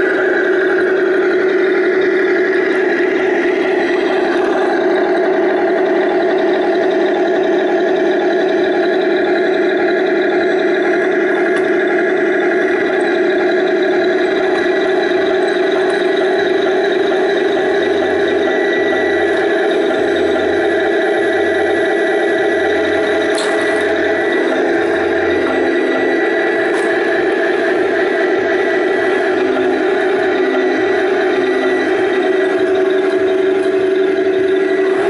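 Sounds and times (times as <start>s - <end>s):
low pulsing: 0.0s - 35.0s
model tank motor drone: 0.0s - 35.0s.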